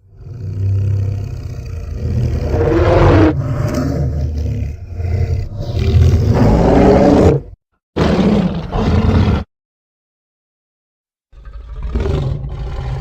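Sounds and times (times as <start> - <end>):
deep monster roar: 0.0 - 9.5, 11.3 - 13.0.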